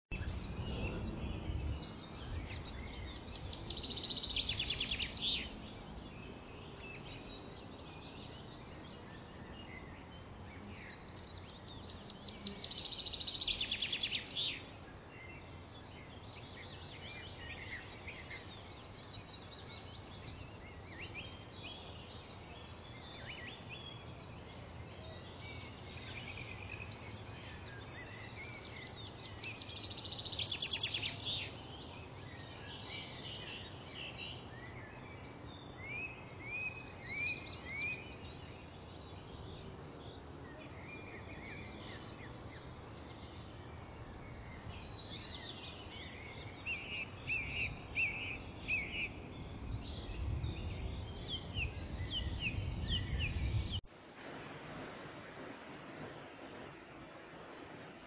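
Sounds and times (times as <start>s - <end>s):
birds chirping: 0.1s - 53.9s
low background hiss: 0.1s - 58.0s.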